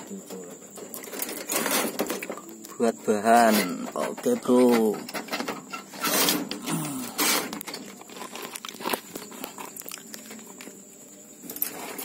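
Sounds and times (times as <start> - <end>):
rustling at wire cage: 0.0 - 2.7, 3.3 - 12.0.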